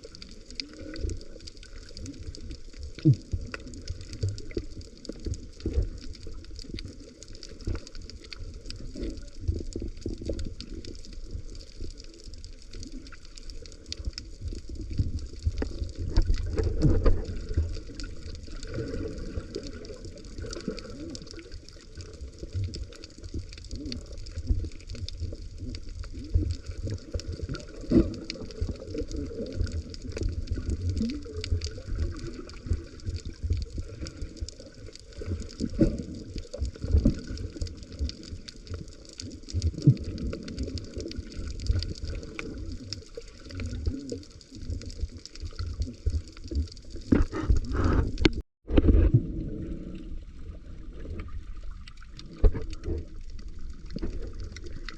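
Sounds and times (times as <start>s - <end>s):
water sloshing and gurgling: 0.0s - 54.9s.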